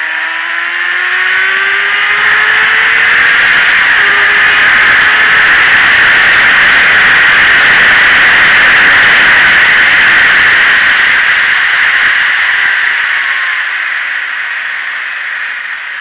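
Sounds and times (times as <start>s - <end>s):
wind rush over microphone: 1.3s - 15.4s.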